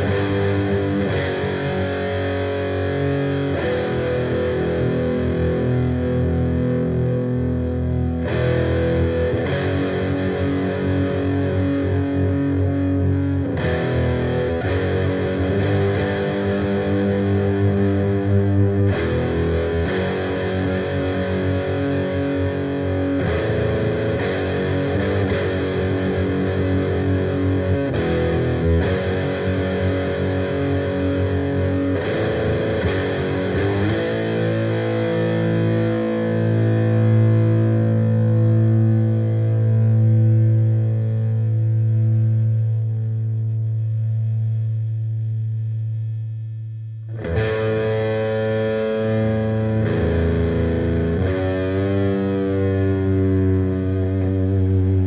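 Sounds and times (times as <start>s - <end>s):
distorted electric guitar chords: 0.0s - 55.0s.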